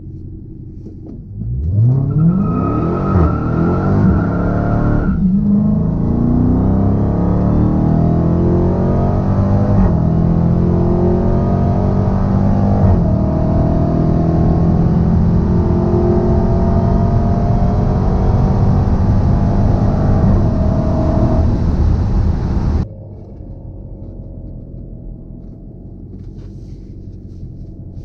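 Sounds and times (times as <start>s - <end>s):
car engine at full throttle: 0.0s - 28.0s.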